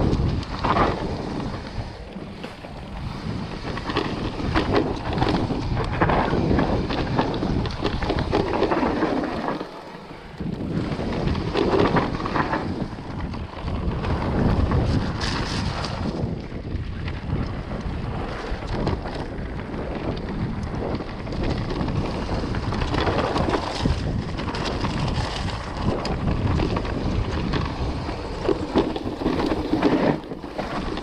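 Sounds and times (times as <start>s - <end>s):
bike rattles and knocks: 0.0s - 31.0s
wind buffeting microphone: 0.0s - 31.0s.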